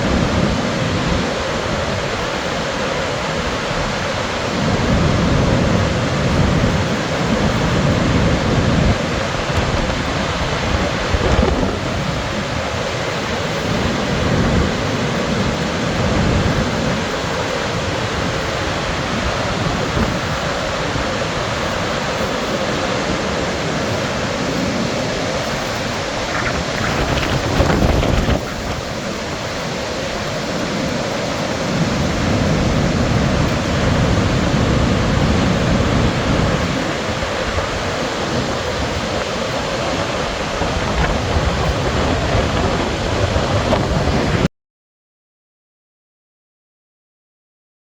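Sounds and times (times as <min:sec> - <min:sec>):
waterfall rushing: 0:00.0 - 0:44.5.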